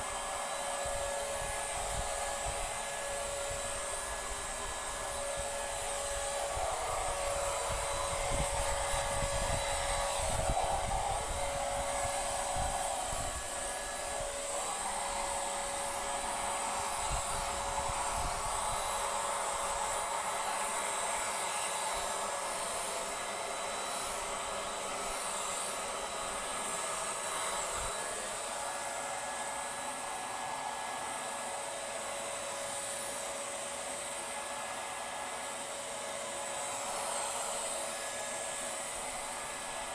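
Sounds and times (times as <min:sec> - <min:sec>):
electric paint sprayer whine: 0:00.0 - 0:39.9.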